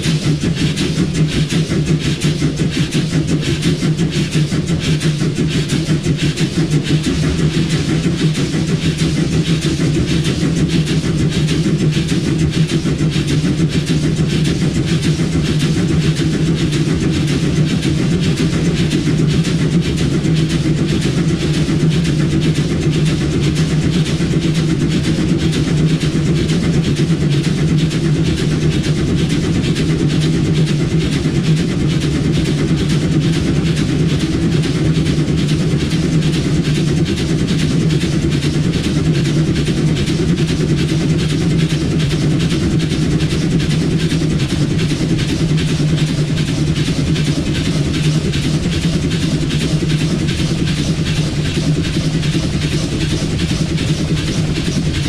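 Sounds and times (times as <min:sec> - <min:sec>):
fast even clatter: 0:00.0 - 0:55.0
low hum and rumble: 0:00.0 - 0:55.0.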